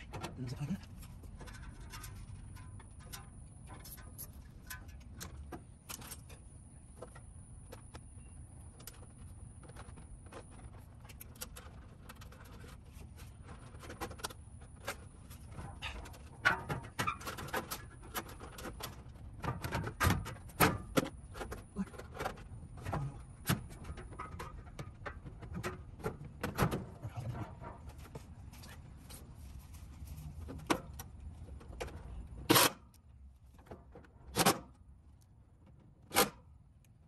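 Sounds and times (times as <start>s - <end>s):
wires and fan grille rattling: 0.0s - 7.7s, 8.6s - 32.6s.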